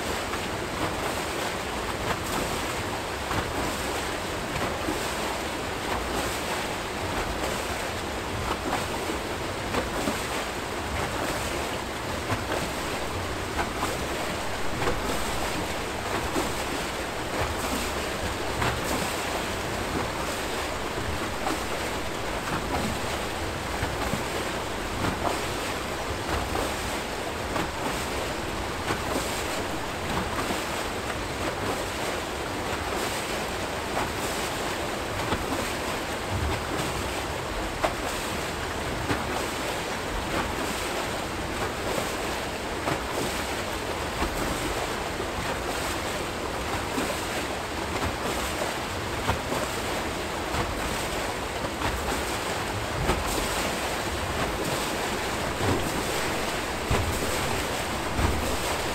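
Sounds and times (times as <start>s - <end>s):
water churning through screw turbine: 0.0s - 58.9s
water splashes and slaps: 0.0s - 58.9s.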